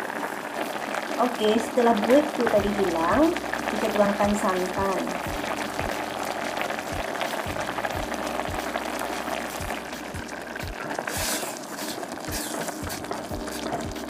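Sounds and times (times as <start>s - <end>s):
broth bubbling in a pot: 0.0s - 14.0s
background music with steady beat: 1.8s - 14.0s.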